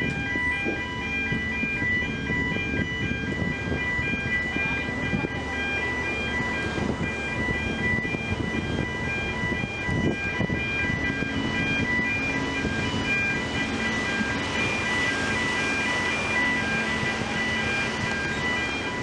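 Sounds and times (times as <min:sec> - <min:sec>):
ferry engine low rumble: 0:00.0 - 0:19.0.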